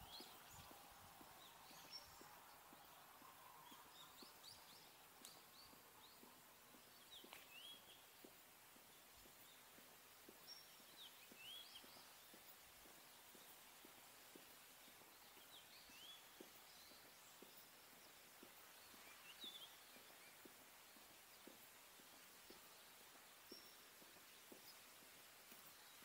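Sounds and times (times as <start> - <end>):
footsteps on stone path: 0.0 - 26.0.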